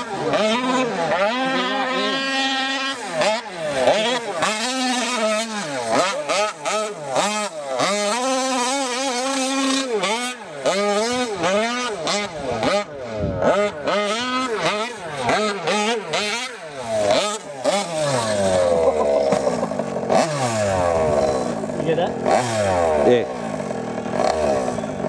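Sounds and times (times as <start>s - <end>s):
two-stroke engine revving: 0.0s - 25.0s.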